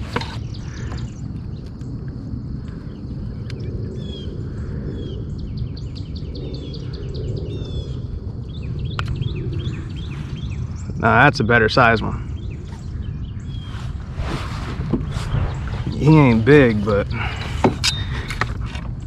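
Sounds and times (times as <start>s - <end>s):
birds chirping: 0.0s - 19.0s
low rumble: 0.0s - 19.0s.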